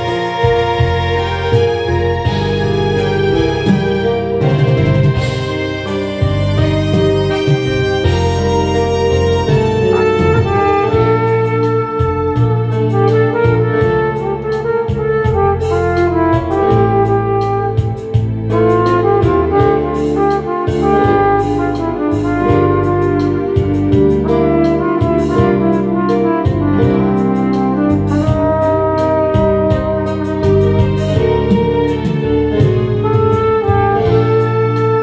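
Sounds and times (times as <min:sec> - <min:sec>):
backing track with bass and drums: 0:00.0 - 0:35.0
flugelhorn slow melody: 0:00.0 - 0:35.0.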